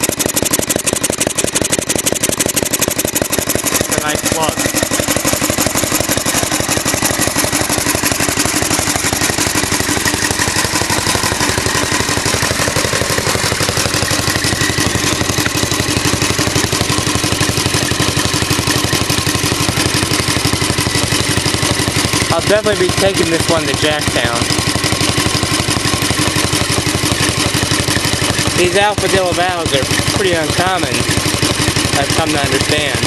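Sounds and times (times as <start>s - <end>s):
stationary engine running: 0.0s - 33.0s.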